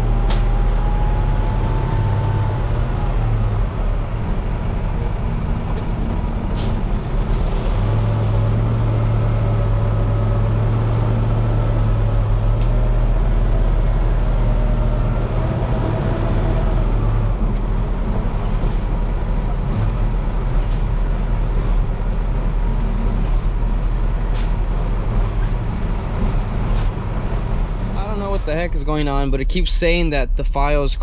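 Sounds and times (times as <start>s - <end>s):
diesel truck engine humming: 0.0s - 31.0s.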